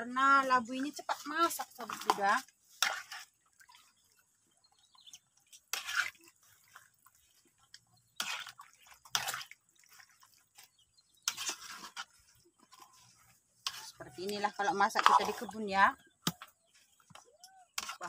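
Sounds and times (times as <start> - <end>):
ladle sloshing and scraping curry: 0.5 - 18.0.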